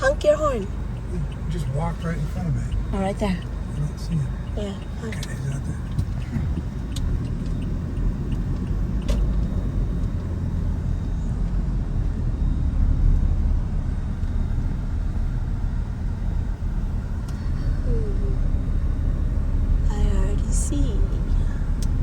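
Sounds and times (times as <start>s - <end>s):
road noise: 0.0s - 22.0s
vehicle engine rumble: 0.0s - 22.0s.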